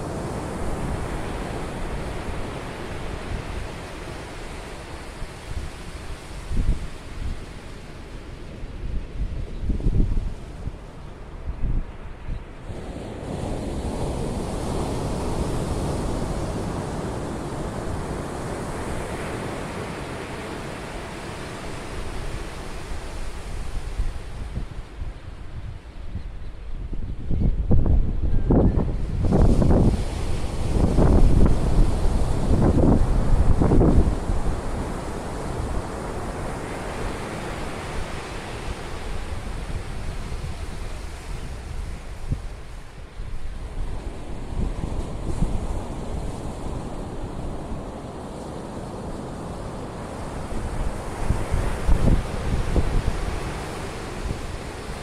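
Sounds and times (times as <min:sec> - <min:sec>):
ocean surf breaking: 0:00.0 - 0:08.9, 0:12.6 - 0:25.0, 0:28.5 - 0:55.0
wind buffeting microphone: 0:08.4 - 0:19.4, 0:21.7 - 0:55.0.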